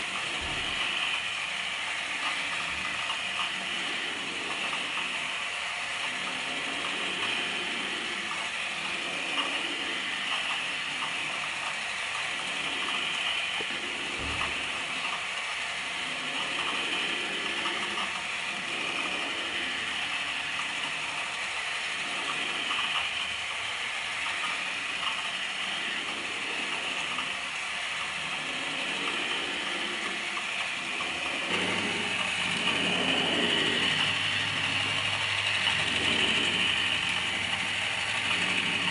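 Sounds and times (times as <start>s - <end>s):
drawing machine whirring and rattling: 0.0s - 38.9s.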